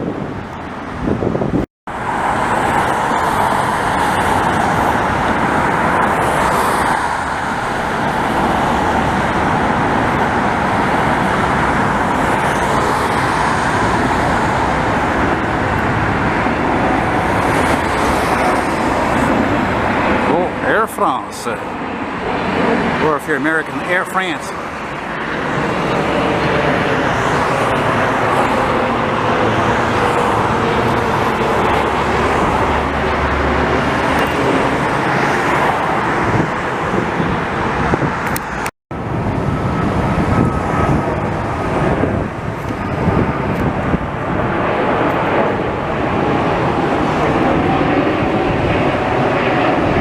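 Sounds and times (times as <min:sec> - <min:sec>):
jet airliner engines roaring: 0:00.0 - 0:50.0.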